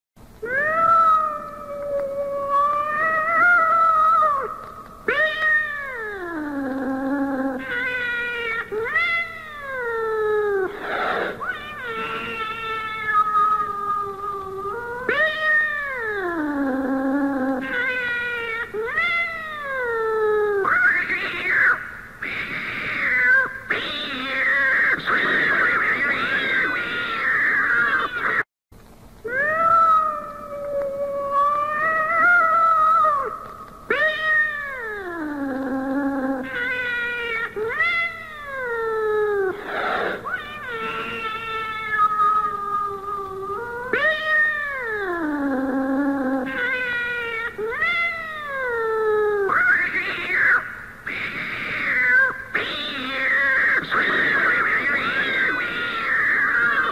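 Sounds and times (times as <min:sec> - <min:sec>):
cats yowling: 0:00.4 - 0:28.4, 0:29.3 - 0:56.9
cats screeching: 0:00.4 - 0:28.5, 0:29.3 - 0:56.9.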